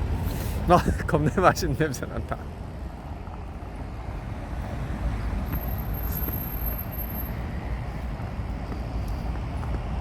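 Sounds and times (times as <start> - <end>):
street noise: 0.0 - 10.0
traffic rumble: 0.0 - 10.0.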